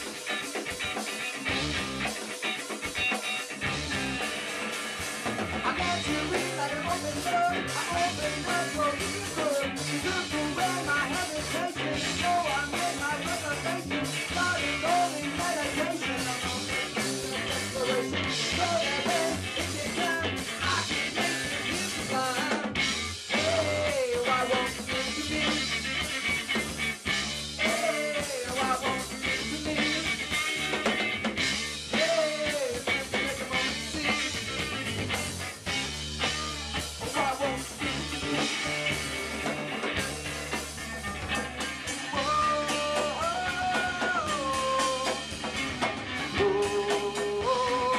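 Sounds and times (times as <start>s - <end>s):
bending guitar melody: 0.0s - 47.9s
live rock band playing: 0.0s - 47.9s.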